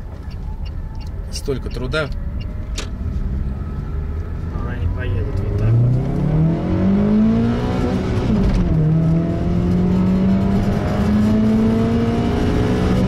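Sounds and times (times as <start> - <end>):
car engine revving under load: 1.7 - 13.0.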